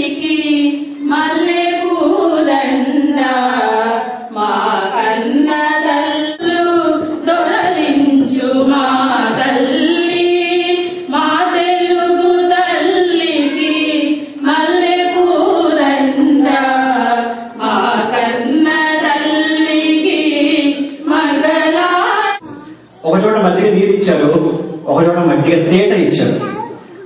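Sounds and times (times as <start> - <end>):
women singing in unison: 0.0 - 22.7.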